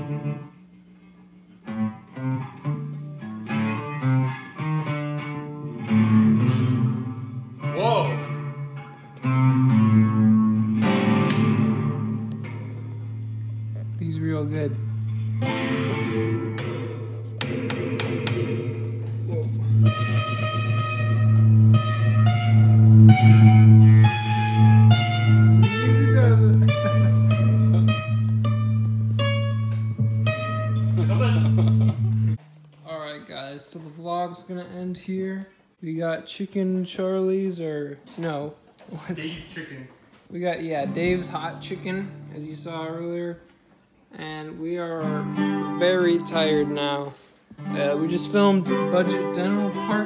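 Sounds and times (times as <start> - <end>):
acoustic guitar playing: 0.0 - 33.1, 40.4 - 43.4, 44.2 - 50.0.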